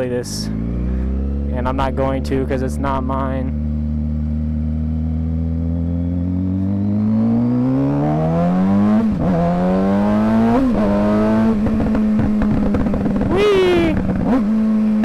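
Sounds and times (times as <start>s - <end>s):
motorcycle engine accelerating: 0.3s - 15.0s.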